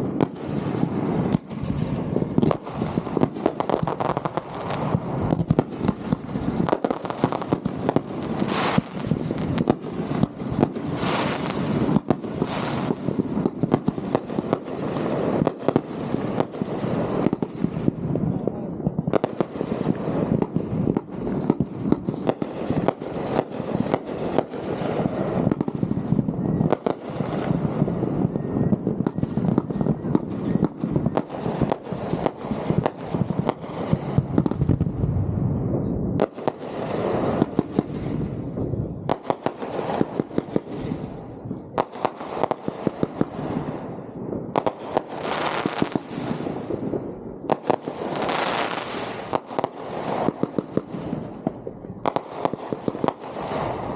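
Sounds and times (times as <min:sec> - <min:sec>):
crackling fireworks bursts: 0:00.0 - 0:53.9
fireworks shots and bursts: 0:00.0 - 0:53.9.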